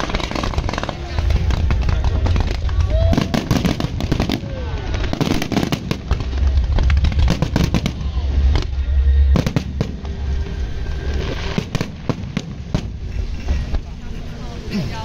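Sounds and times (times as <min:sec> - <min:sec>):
deep rumble: 0:00.0 - 0:15.0
fireworks bangs and crackles: 0:00.0 - 0:15.0.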